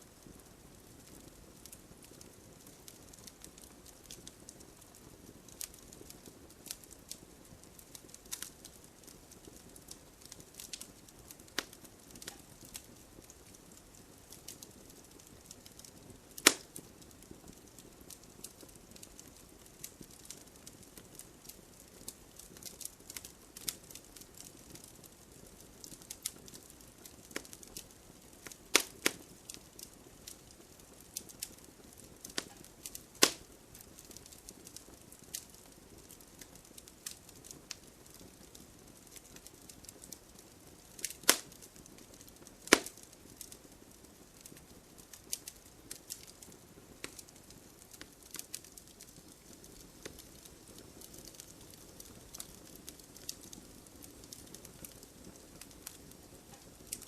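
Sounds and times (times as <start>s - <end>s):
faint hiss of flames: 0.0s - 57.0s
wood fire crackling: 0.0s - 57.0s
sharp pops from burning logs: 0.1s - 57.0s.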